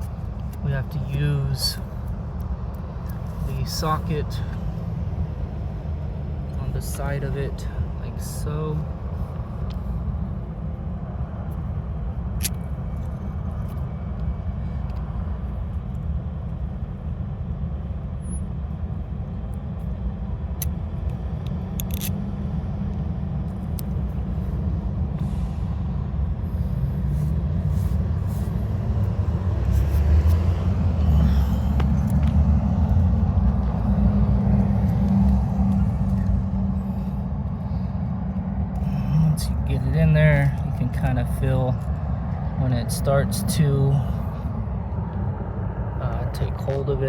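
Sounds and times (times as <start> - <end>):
motor vehicle engine rumble: 0.0 - 47.0.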